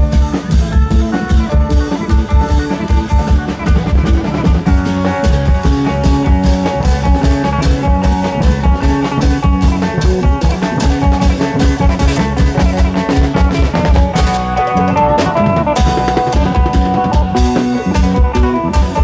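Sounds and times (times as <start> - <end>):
drums keeping fast beat: 0.0 - 19.0
plucked string melody: 0.0 - 19.0.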